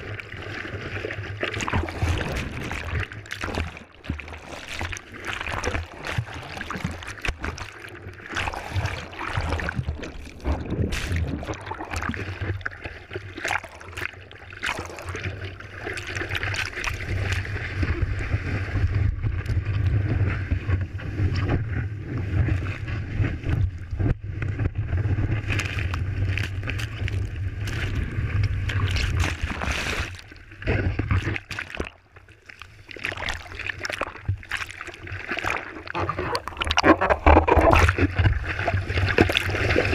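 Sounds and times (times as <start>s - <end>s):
surf rushing and splashing: 0.0s - 32.0s.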